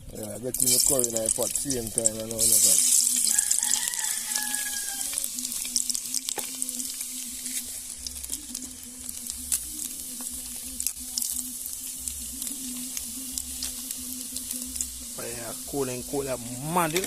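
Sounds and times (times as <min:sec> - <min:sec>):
spice sizzling in hot oil: 0:00.0 - 0:17.0.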